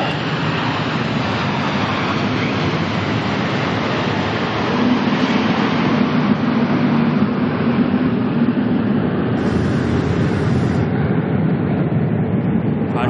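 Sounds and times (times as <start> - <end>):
fighter jets roaring overhead: 0.0 - 13.0.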